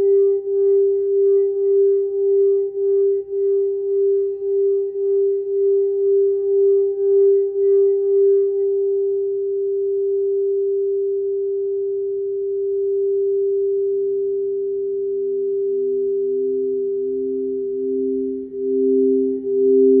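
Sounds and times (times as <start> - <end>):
lower singing bowl pulsing wobble: 0.0 - 20.0
singing bowl steady tone: 0.0 - 20.0.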